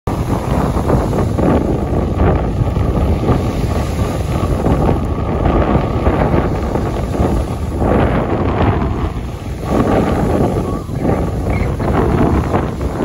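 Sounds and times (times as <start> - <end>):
small waves washing onto sand: 0.1 - 13.0
wind buffeting microphone: 0.1 - 13.0.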